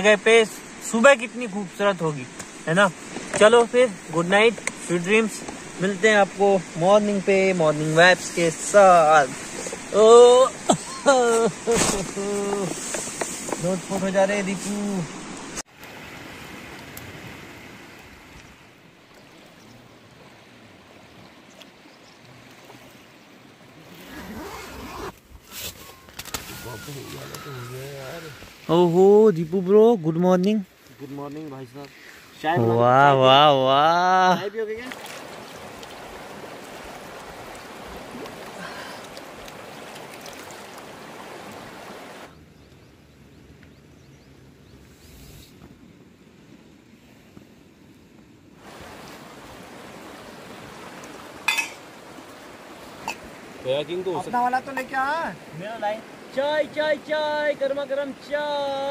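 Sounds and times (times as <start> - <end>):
flowing river rushing: 0.0 - 25.2, 25.9 - 42.4, 48.6 - 58.9.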